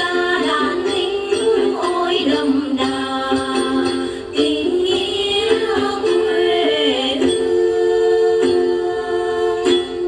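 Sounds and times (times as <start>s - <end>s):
group singing: 0.0s - 10.0s
lute strums: 0.0s - 10.0s.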